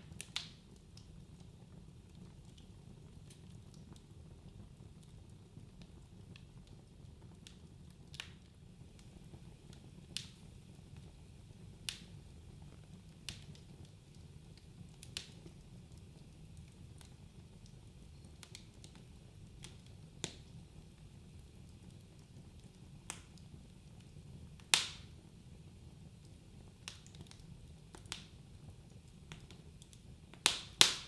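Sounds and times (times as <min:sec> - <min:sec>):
fire crackling and popping: 0:00.0 - 0:31.0
fire rumbling in fireplace: 0:00.0 - 0:31.0.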